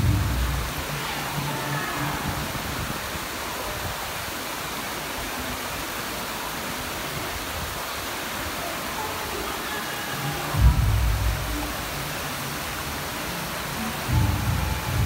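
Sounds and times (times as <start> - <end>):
rushing water of stream: 0.0 - 15.0.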